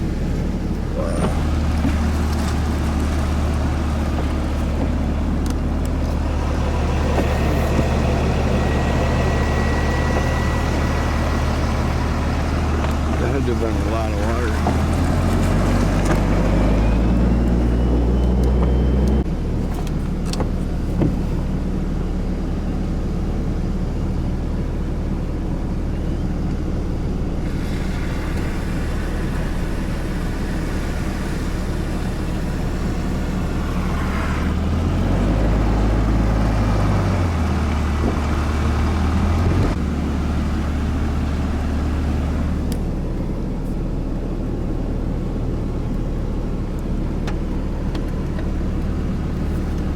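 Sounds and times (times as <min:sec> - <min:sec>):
car engine hum: 0:00.0 - 0:49.9
road noise: 0:00.0 - 0:49.9.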